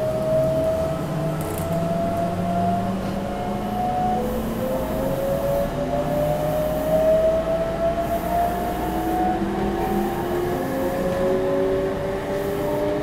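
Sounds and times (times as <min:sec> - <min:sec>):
wheel and rail rumble: 0:00.0 - 0:13.0
electric train motors whining: 0:00.1 - 0:13.0.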